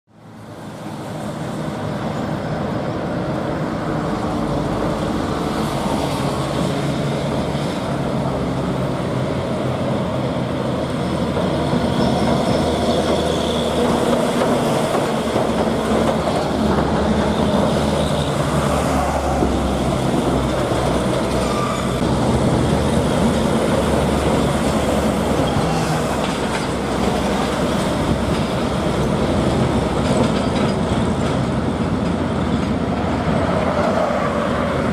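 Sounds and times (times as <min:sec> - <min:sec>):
road and traffic noise: 0:00.0 - 0:34.9
truck engine running under load: 0:00.3 - 0:34.9.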